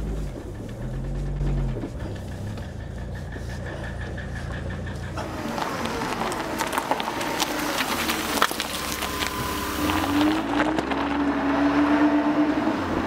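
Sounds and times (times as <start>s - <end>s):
diesel engine ticking: 0.0s - 13.0s.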